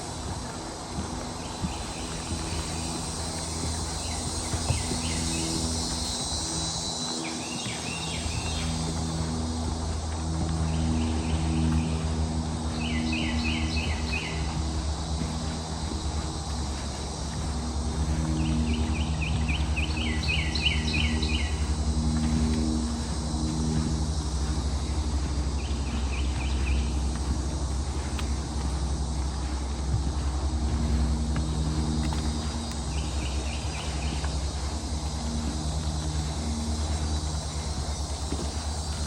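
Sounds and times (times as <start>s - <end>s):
low engine drone: 0.0s - 39.0s.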